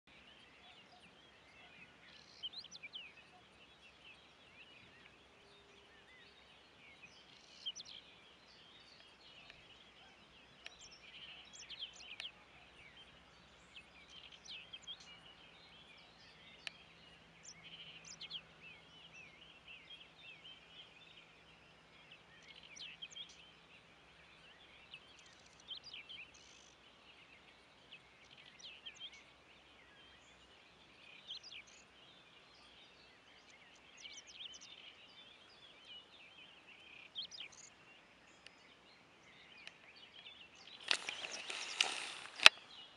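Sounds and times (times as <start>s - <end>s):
small birds chirping: 0.1s - 42.9s
soft steady hiss: 0.1s - 42.9s.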